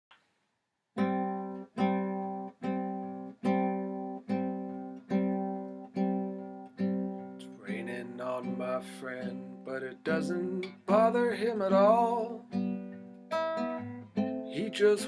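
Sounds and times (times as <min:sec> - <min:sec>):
acoustic guitar strumming: 0:01.0 - 0:15.0.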